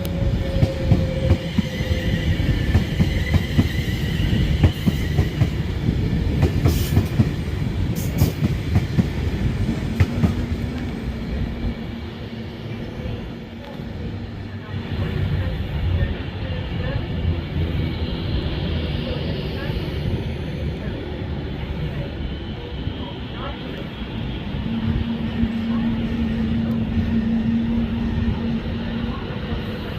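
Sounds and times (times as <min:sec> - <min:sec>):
train low rumble: 0:00.0 - 0:29.9.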